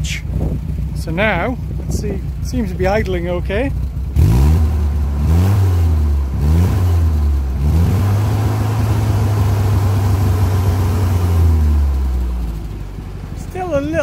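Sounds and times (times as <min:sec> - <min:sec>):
exhaust popping: 0:00.0 - 0:14.0
tractor engine revving: 0:00.0 - 0:14.0.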